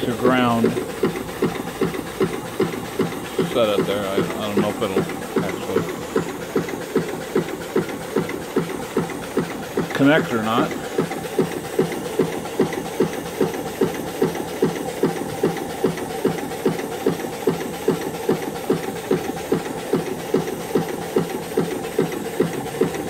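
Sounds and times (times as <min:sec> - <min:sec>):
steam engine chuffing: 0:00.0 - 0:23.0.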